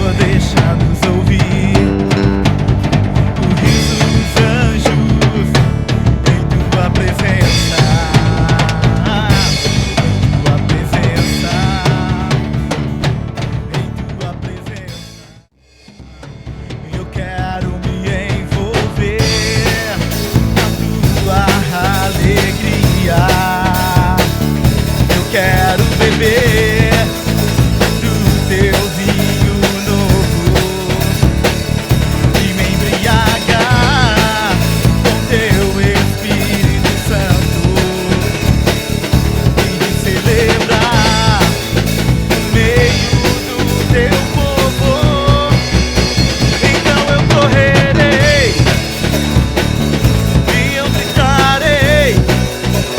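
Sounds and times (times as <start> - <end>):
person singing: 0.0 - 2.6, 3.4 - 15.2, 15.9 - 52.9
acoustic guitar: 0.0 - 52.9
band playing upbeat song: 0.0 - 52.9
drum kit beat: 0.0 - 52.9.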